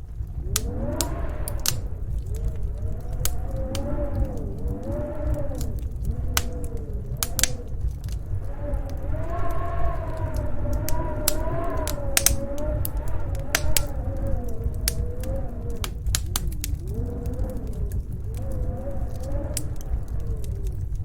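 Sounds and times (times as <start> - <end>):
low rumble: 0.0 - 21.0
wind howling: 0.0 - 21.0
wood fire crackling: 0.0 - 21.0.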